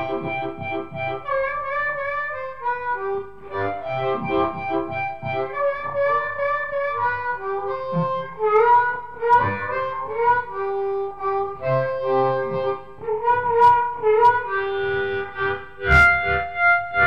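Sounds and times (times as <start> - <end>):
harmonica playing blues melody: 0.0 - 17.0.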